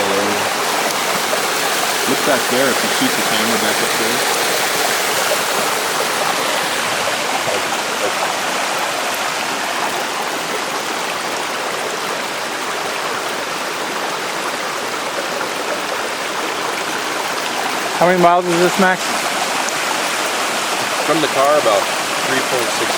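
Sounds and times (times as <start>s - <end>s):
waterfall pouring over rocks: 0.0s - 22.9s.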